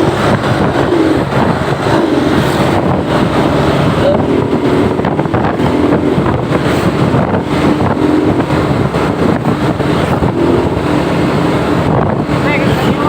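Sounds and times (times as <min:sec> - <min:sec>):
road noise from passing buses: 0:00.0 - 0:13.0
wind buffeting microphone: 0:00.0 - 0:13.0.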